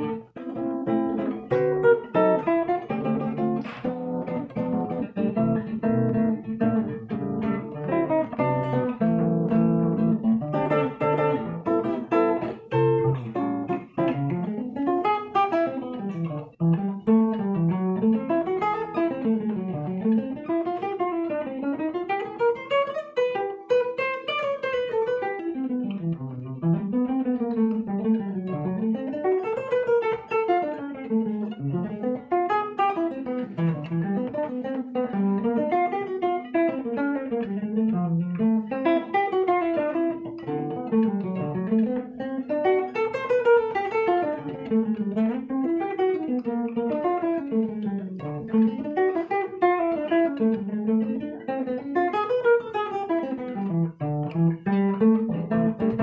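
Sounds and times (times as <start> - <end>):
acoustic guitar jazz improvisation: 0.0 - 56.0.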